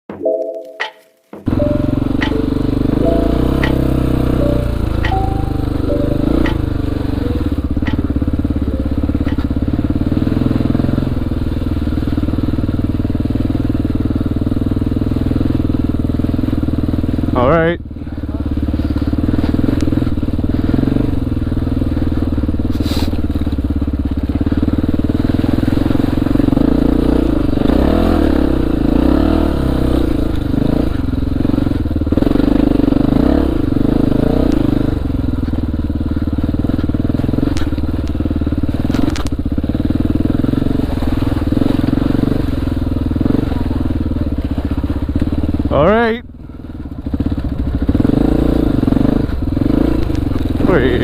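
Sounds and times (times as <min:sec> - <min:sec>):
dirt bike engine revving: 0:01.4 - 0:51.0.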